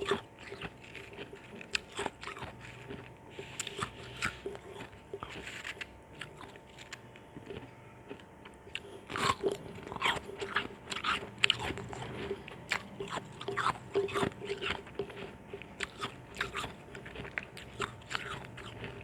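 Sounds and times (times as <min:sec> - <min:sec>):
ice crunching between teeth: 0:00.0 - 0:19.0.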